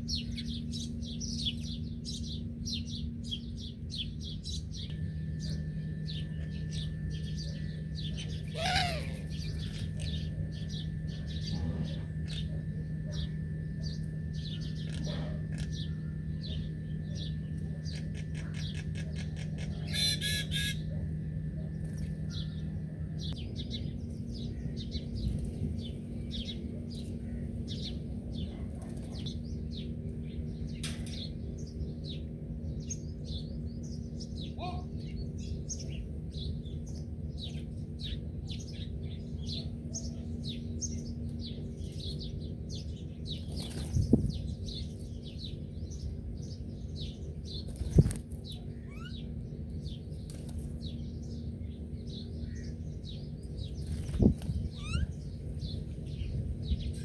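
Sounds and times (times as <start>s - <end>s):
bird trill: 0.0s - 57.0s
small birds chirping: 0.0s - 57.0s
steady low hum: 0.0s - 57.0s.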